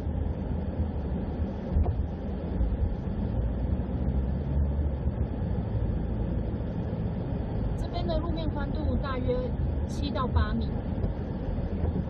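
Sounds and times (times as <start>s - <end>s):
vehicle rumbling on a road: 0.0s - 12.0s.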